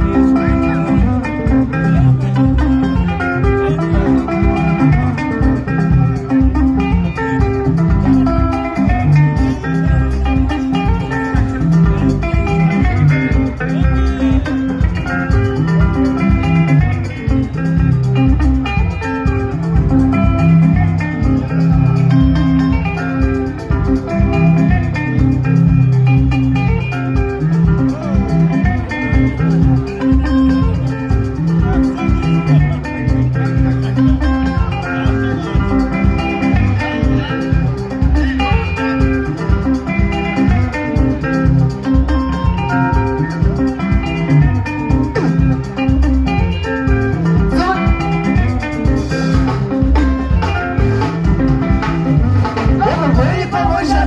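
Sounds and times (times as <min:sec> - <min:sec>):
bass guitar: 0:00.0 - 0:54.0
drums: 0:00.0 - 0:54.0
electric guitar lines: 0:00.0 - 0:54.0.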